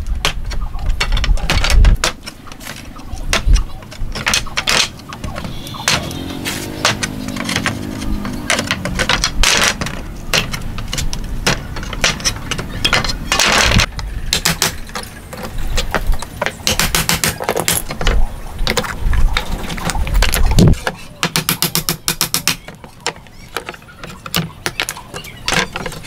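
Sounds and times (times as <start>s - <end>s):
nails scraping out of wood: 0.2s - 26.0s.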